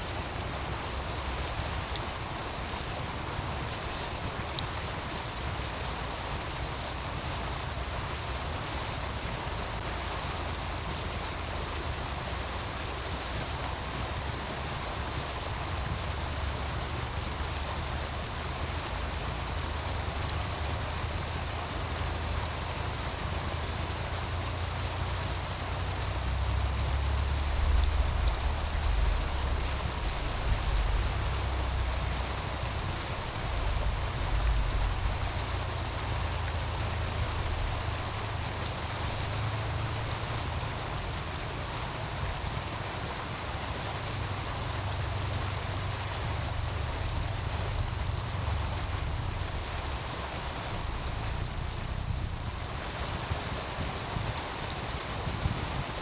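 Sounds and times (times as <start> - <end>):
stream rushing: 0.0 - 56.0
wind rumble on microphone: 0.0 - 56.0
wood fire crackling: 0.0 - 56.0.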